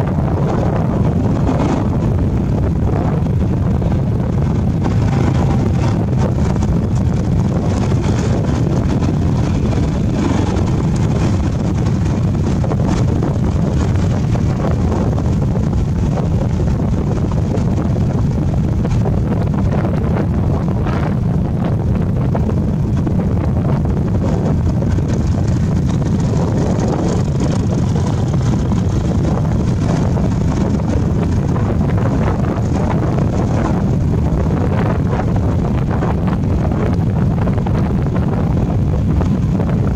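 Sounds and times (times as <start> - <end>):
motorbike engine cruising: 0.0 - 39.9
wind buffeting microphone: 0.0 - 39.9.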